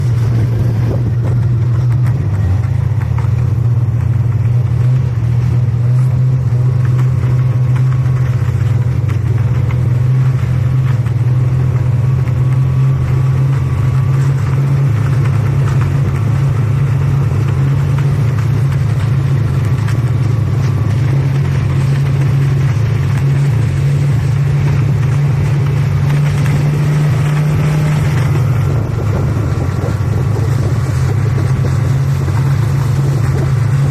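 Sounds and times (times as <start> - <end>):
snowmobile engine running: 0.0 - 33.9.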